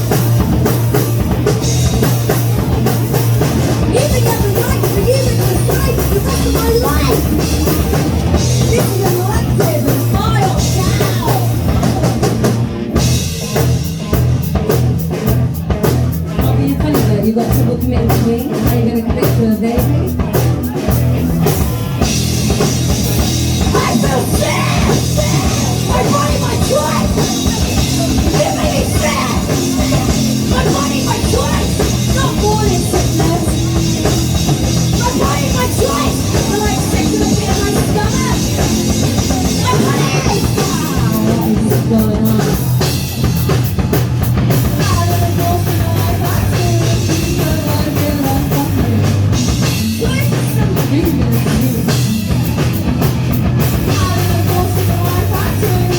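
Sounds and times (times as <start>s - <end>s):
drum kit: 0.0s - 55.9s
punk rock band playing: 0.0s - 55.9s.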